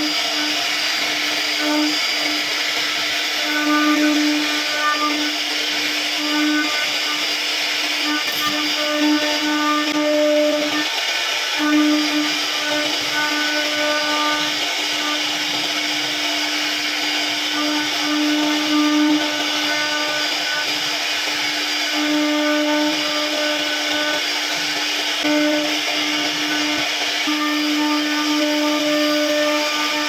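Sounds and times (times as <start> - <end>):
bit carving wood: 0.0 - 30.0
router spindle whine: 0.0 - 30.0.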